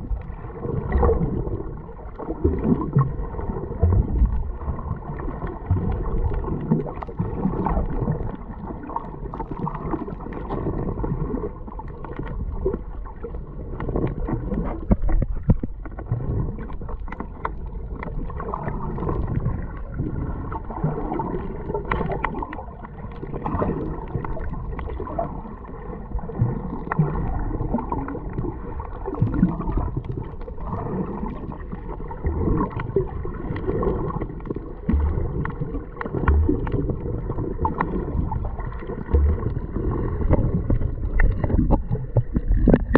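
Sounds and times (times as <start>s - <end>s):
muffled gurgling water: 0.0s - 42.9s.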